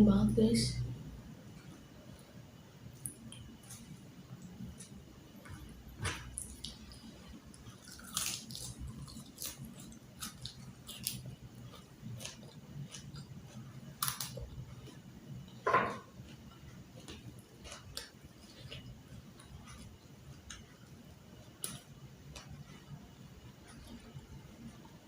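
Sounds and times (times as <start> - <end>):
chewing crispy fried fish: 2.9 - 25.0.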